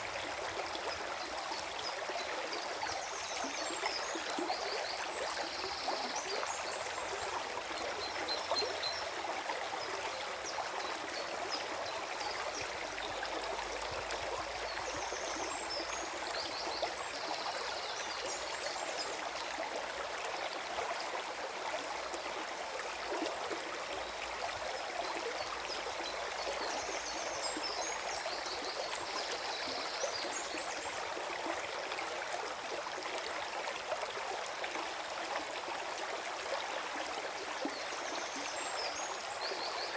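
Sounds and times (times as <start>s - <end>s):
stream gurgling: 0.0s - 39.9s.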